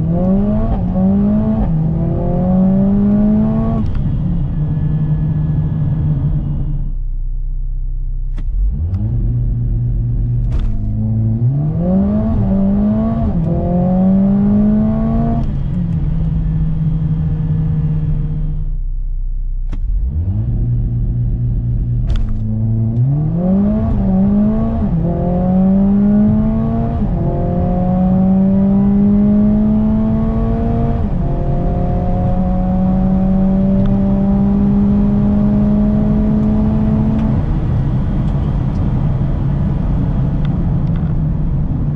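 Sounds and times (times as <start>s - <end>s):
car engine accelerating hard: 0.0s - 6.9s, 8.3s - 18.8s, 19.6s - 41.9s.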